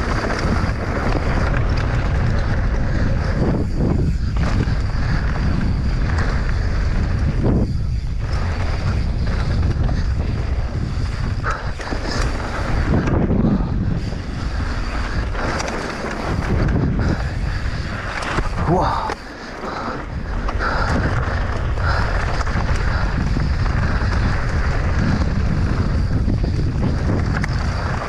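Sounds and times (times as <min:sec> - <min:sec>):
bike clicks and rattles: 0:00.0 - 0:28.0
bike tyres rumbling on trail: 0:00.0 - 0:28.0
wind rushing over microphone: 0:00.0 - 0:28.0.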